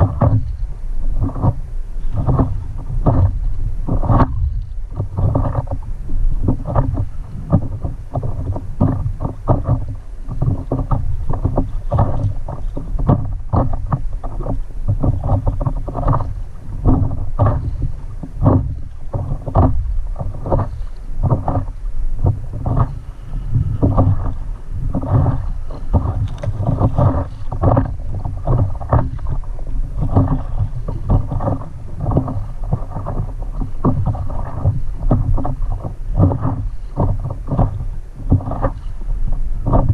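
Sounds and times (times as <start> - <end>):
waves slapping against a paddleboard: 0.0 - 39.9
wind rumbling on microphone: 0.0 - 39.9.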